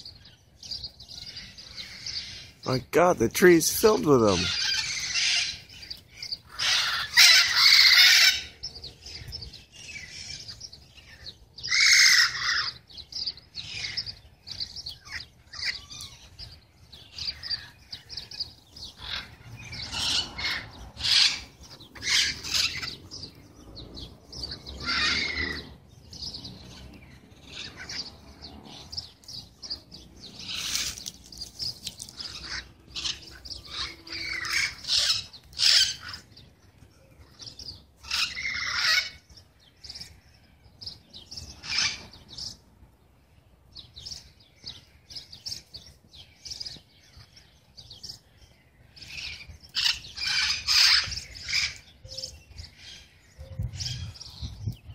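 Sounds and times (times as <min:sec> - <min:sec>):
parrots screeching and chattering: 0:00.2 - 0:02.7, 0:04.3 - 0:36.5, 0:37.2 - 0:42.6, 0:48.9 - 0:54.4.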